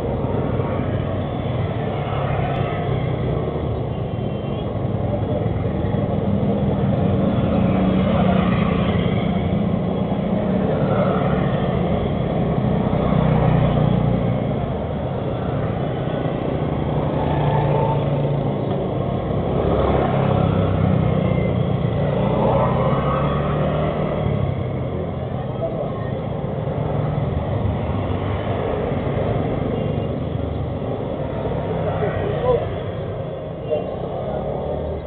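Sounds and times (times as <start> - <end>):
motorbikes riding past: 5.0 - 35.0.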